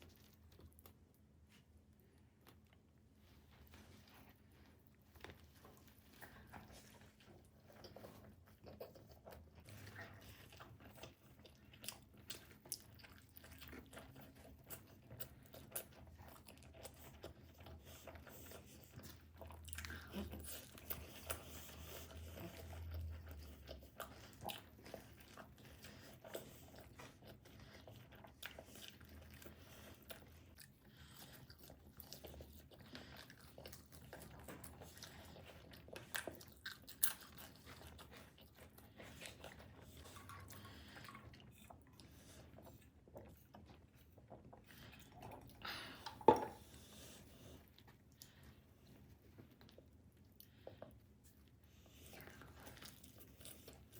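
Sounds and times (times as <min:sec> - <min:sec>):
crunching and chewing pizza: 0:00.0 - 0:53.9.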